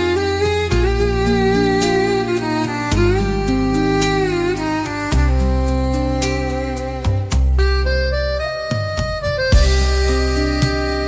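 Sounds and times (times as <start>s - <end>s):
song with held melody and bass: 0.0s - 11.0s.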